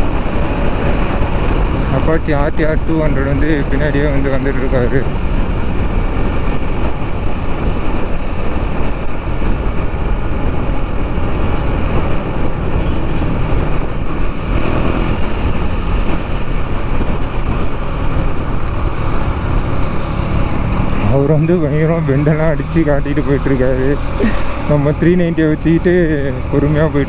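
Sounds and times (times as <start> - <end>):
motorcycle engine cruising: 0.0 - 27.0
wind rushing on microphone: 0.0 - 27.0.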